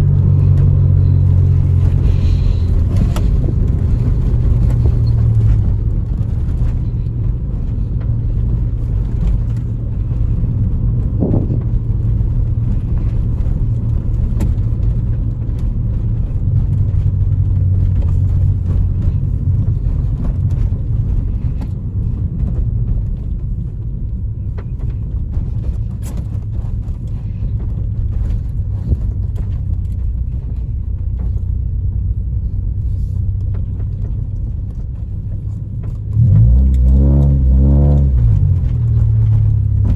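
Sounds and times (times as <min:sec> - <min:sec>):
misfiring car engine rumbling: 0:00.0 - 0:39.9.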